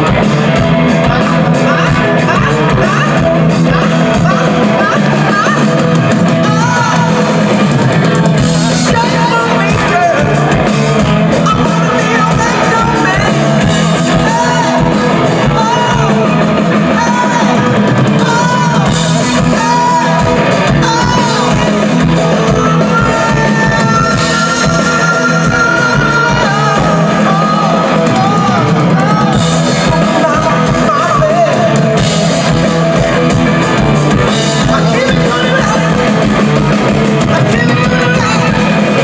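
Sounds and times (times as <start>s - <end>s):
man singing: 0.0s - 7.5s, 8.5s - 32.6s, 34.2s - 39.0s
rock band playing live: 0.0s - 39.0s.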